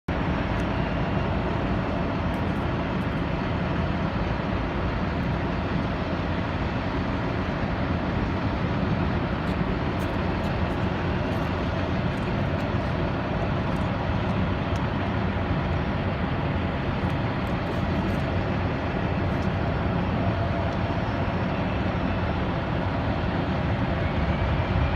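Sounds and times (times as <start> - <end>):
airport noise: 0.1 - 24.9
jet airliner roar on ground: 0.1 - 24.9.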